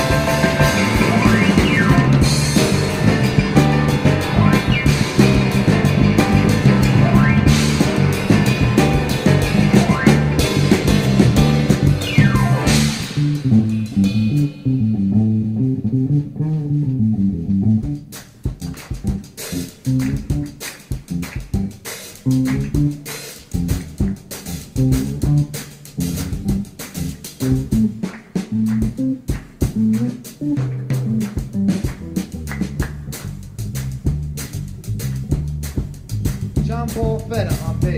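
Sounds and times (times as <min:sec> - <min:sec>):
rock instrumental music: 0:00.0 - 0:37.9.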